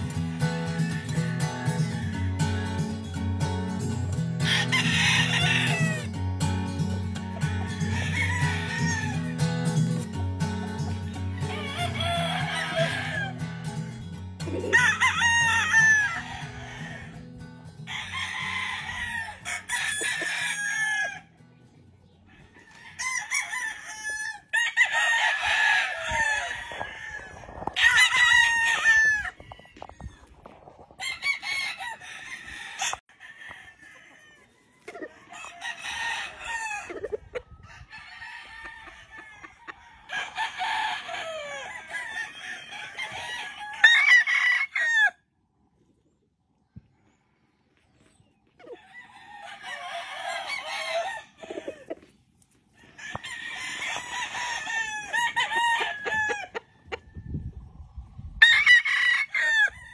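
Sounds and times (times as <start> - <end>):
roosters crowing: 0.0 - 21.4, 22.1 - 45.3, 48.0 - 59.9.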